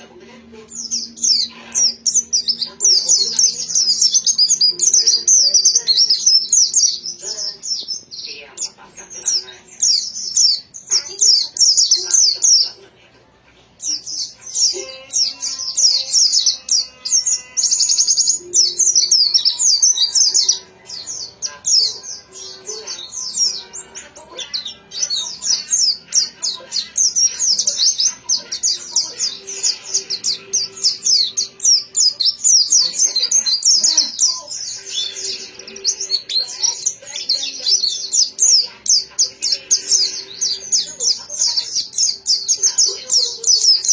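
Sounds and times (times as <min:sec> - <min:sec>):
bird singing chattering song: 0:00.0 - 0:43.9.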